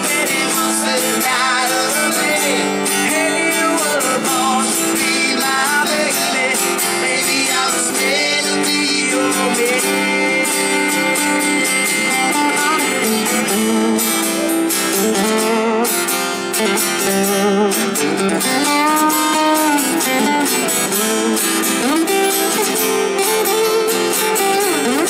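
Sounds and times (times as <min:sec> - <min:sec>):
acoustic lead guitar bending notes: 0:00.0 - 0:25.0
strummed acoustic rhythm guitar: 0:00.0 - 0:25.0.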